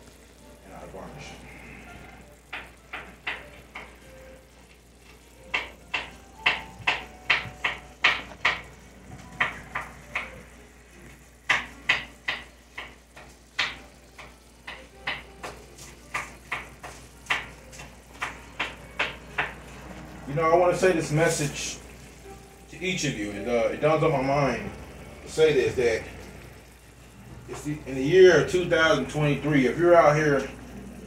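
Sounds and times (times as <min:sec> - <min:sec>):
meat and onion sizzling in a pan: 0:00.0 - 0:31.0.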